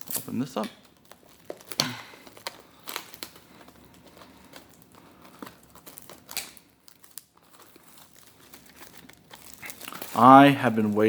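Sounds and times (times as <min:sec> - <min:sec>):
plastic and cardboard crinkling: 0:00.0 - 0:11.0
sharp crackles: 0:00.0 - 0:11.0.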